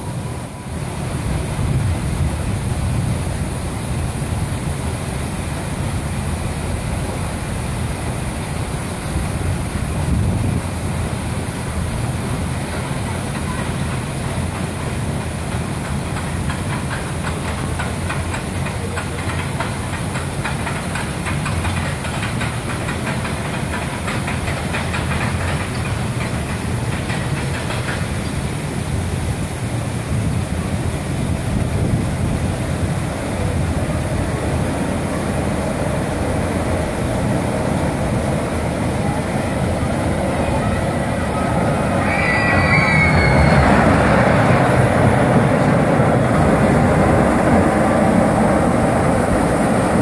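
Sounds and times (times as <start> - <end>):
roller coaster rumbling and clattering: 0.0 - 50.0
steady hiss: 0.0 - 50.0.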